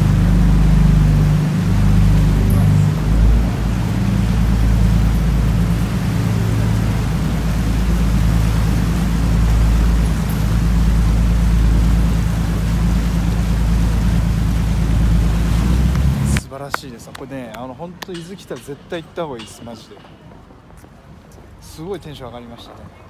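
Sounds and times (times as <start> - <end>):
water rushing past hull: 0.0 - 19.3
boat engine droning: 0.0 - 21.3.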